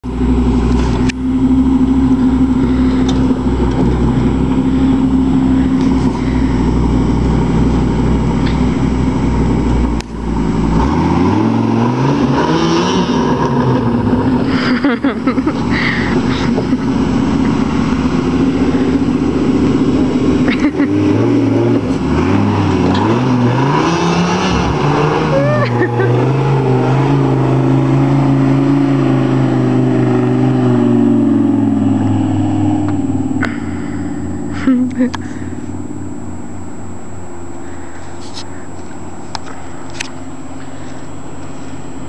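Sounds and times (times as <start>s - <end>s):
truck engine pulling uphill: 0.0s - 42.0s.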